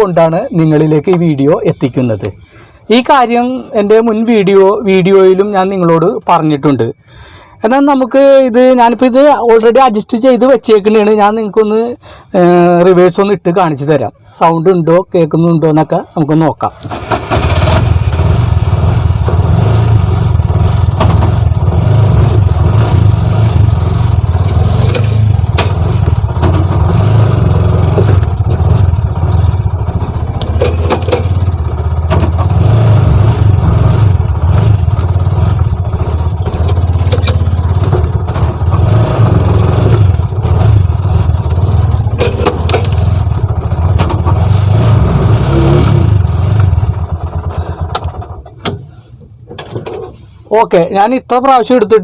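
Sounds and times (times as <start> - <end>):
auto-rickshaw engine running: 0.0 - 52.0.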